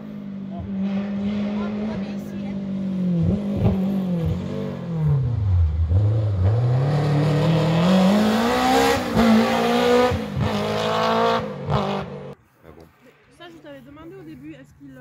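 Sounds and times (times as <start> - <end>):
rally car engine accelerating: 0.0 - 12.4.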